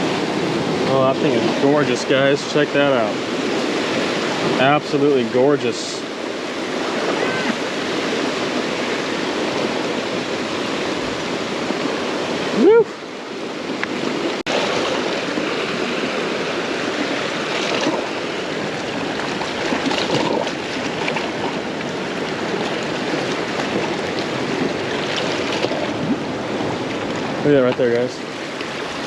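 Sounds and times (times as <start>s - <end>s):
ocean surf washing on shore: 0.0s - 29.0s.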